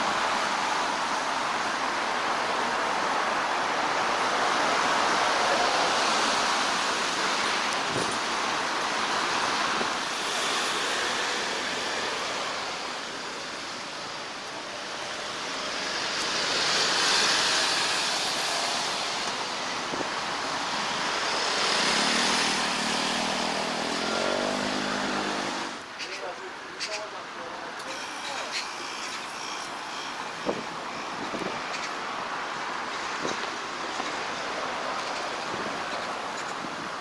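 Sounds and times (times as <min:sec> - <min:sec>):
tyre noise of passing vehicles: 0:00.0 - 0:37.0.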